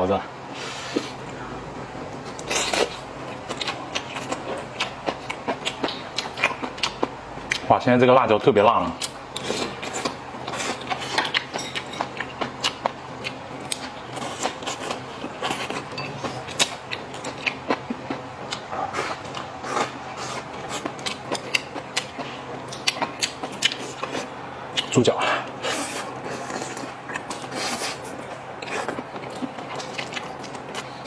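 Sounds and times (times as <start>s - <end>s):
chewing and mouth smacking: 2.3s - 7.7s, 8.9s - 24.9s, 25.6s - 31.0s.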